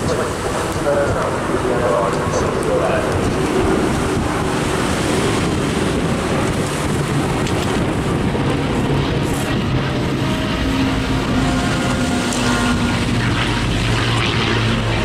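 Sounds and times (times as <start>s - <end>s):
propeller aircraft engines: 0.0s - 15.0s
wind noise on microphone: 0.0s - 15.0s.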